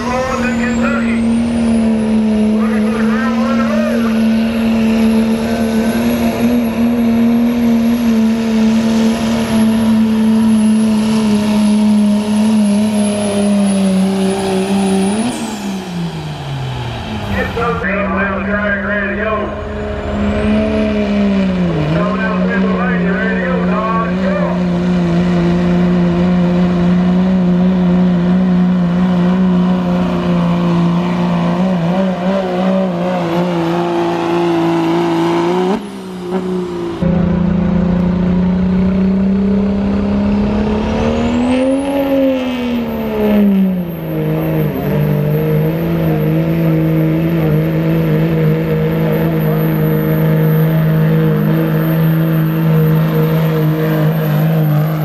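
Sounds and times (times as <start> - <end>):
diesel truck engines at full throttle: 0.0 - 55.0.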